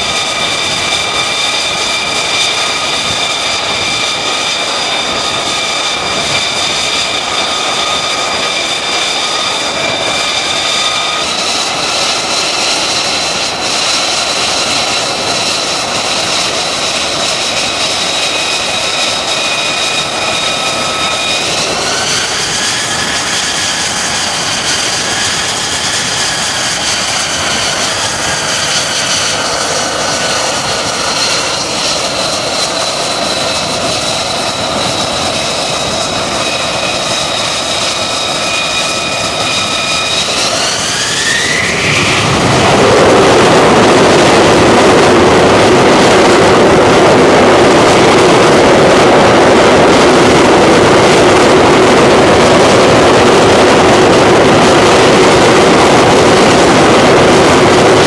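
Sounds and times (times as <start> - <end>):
jet engine roaring: 0.0 - 58.0.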